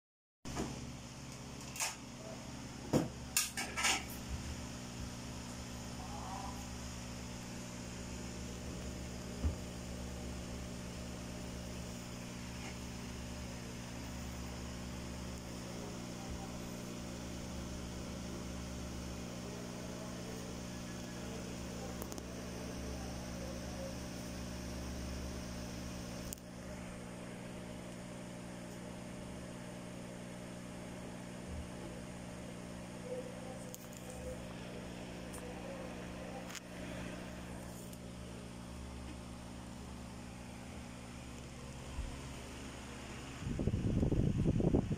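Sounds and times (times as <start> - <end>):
aquarium air pump humming: 0.5 - 44.9.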